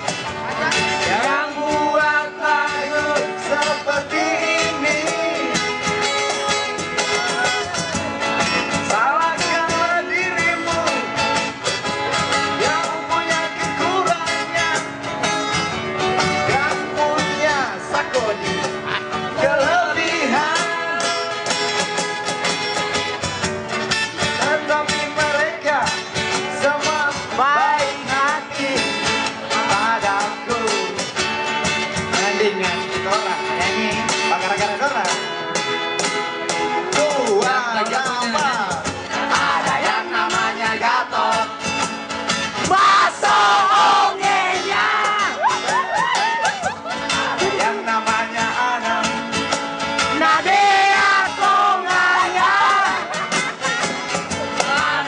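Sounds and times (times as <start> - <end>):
acoustic guitars playing: 0.0 - 55.0.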